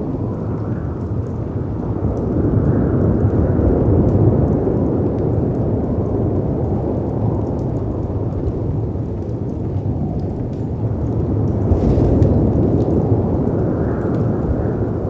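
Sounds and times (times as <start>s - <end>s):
fireplace crackling and popping: 0.0s - 15.0s
wind rumbling: 0.0s - 15.0s.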